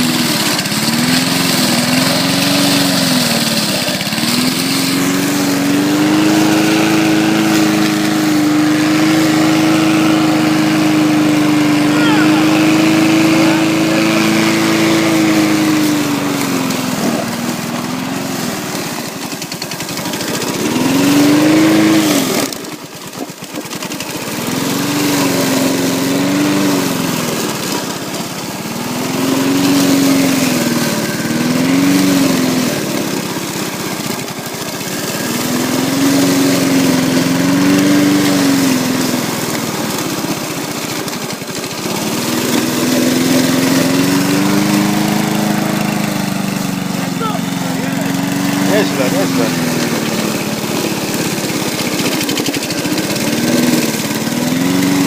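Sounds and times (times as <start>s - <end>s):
lawn mower engine under load: 0.0s - 55.0s.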